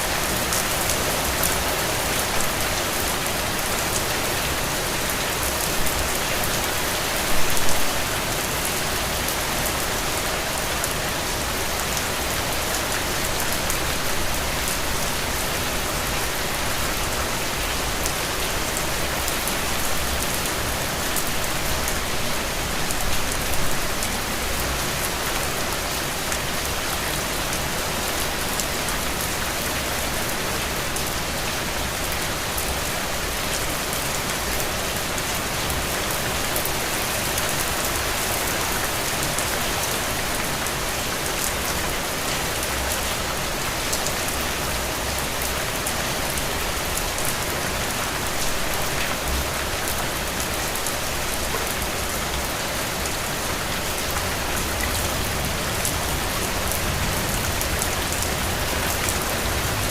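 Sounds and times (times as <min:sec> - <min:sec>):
loud rain spatters: 0:00.0 - 0:59.9
rain falling on a road: 0:00.0 - 0:59.9.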